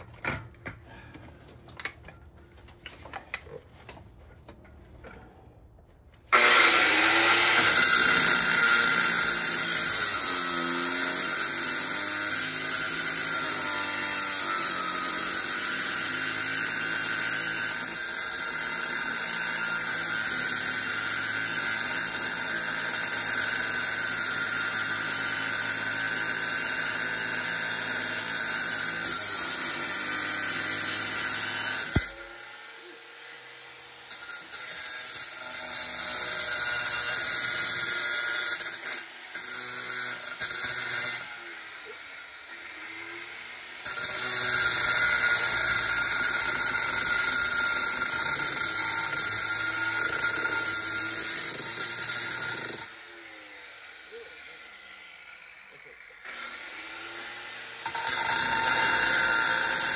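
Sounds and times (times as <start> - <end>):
electric grinder cutting steel: 6.3 - 59.9.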